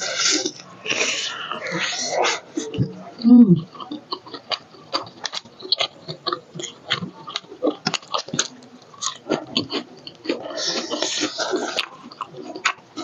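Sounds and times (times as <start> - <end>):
wet chewing and smacking: 0.0 - 13.0.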